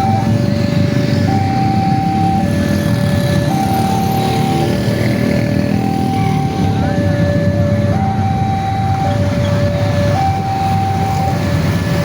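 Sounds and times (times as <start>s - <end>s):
level-crossing two-tone alarm: 0.0s - 12.0s
road vehicles rumbling: 0.0s - 12.0s.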